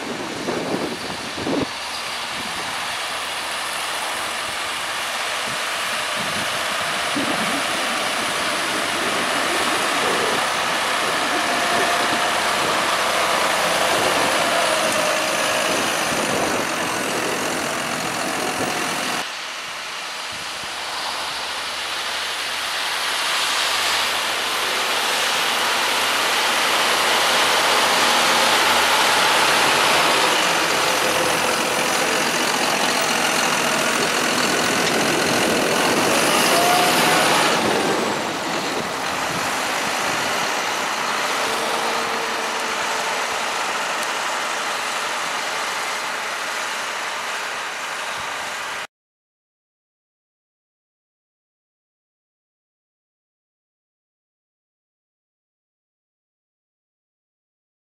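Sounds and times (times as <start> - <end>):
tractor diesel engines running: 0.0 - 48.9.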